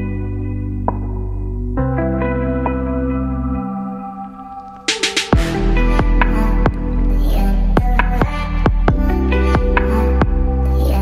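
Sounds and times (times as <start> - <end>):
electronic music with synth and beat: 0.0 - 11.0.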